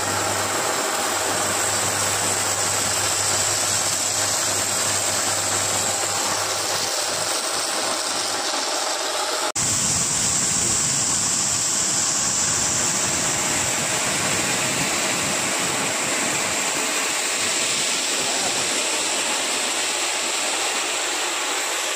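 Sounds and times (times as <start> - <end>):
water jet spraying concrete: 0.0 - 21.9.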